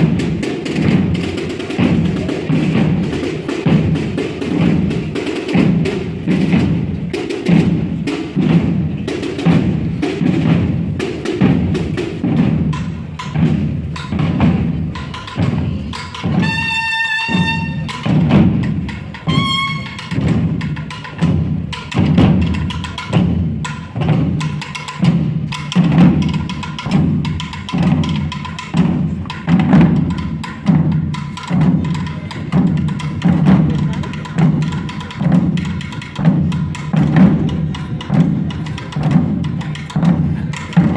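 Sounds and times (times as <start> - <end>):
drum corps marching rhythm: 0.0 - 40.9.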